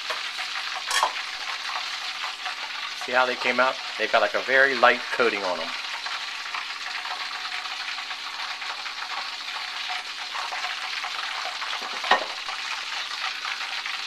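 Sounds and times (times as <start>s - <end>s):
oil bubbling and crackling in a wok: 0.0s - 14.0s.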